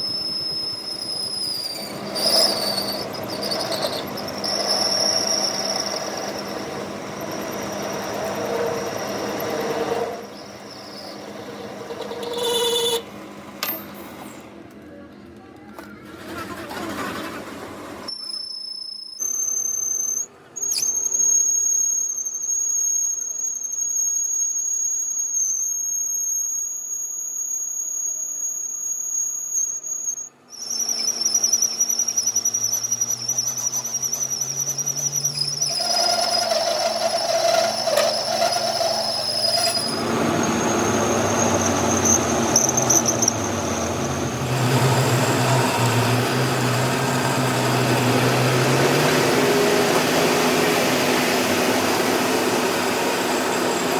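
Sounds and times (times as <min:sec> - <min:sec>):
high-pitched mechanical squeal: 0:00.0 - 0:14.7, 0:15.6 - 0:53.9
shifting whine: 0:00.0 - 0:14.8, 0:16.2 - 0:53.9.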